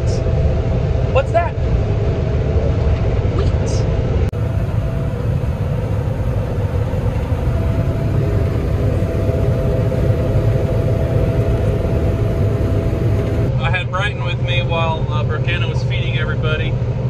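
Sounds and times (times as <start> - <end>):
faint steady whine: 0.0 - 16.8
heavy vehicle engine rumbling: 0.0 - 17.0.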